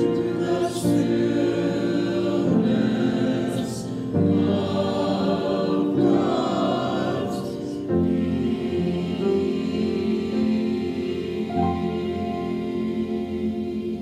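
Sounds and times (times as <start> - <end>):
mixed choir singing held chords: 0.0 - 14.0.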